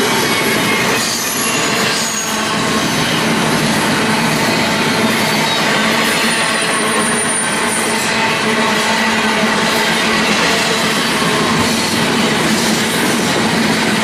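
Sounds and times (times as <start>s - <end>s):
high wheel squeal: 0.0s - 13.2s
freight train wheels rumbling: 0.0s - 14.0s.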